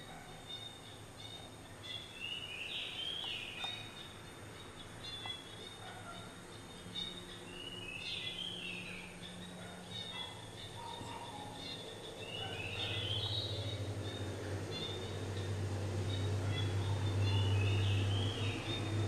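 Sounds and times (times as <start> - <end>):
birds chirping: 0.0 - 19.0
low steady hum: 0.0 - 19.0.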